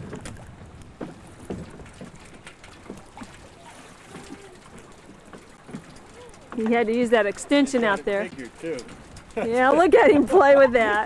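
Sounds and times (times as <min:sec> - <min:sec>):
boats knocking softly: 0:00.0 - 0:11.0
water lapping against dock: 0:00.0 - 0:11.0.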